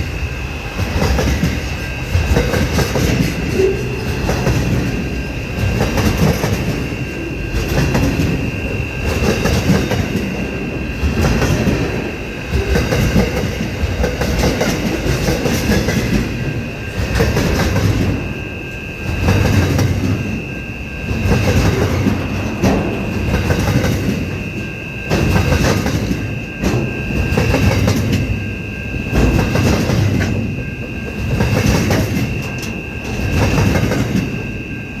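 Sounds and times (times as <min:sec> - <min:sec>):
high-pitched whine: 0:00.0 - 0:35.0
train wheels clacking on rails: 0:00.0 - 0:35.0.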